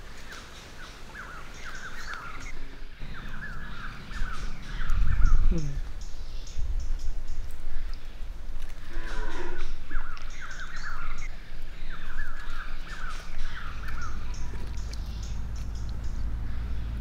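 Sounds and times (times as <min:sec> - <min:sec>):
birds warbling calls: 0:00.2 - 0:17.0
steady low rumble: 0:02.8 - 0:17.0.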